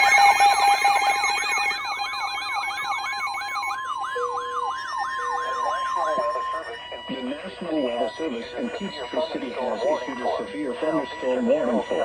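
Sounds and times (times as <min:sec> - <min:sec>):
electronic beeping tones: 0:00.0 - 0:12.0
falling siren-like tone: 0:00.0 - 0:12.0.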